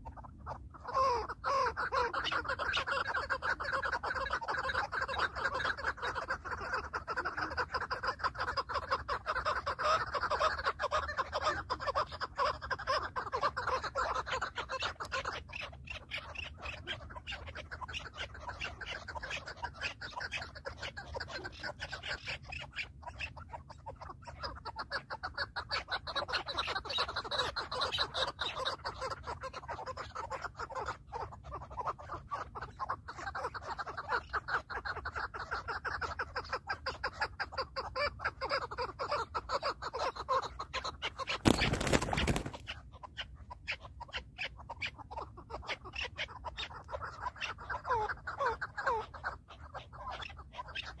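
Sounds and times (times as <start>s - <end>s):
partridges calling: 0.0s - 51.0s.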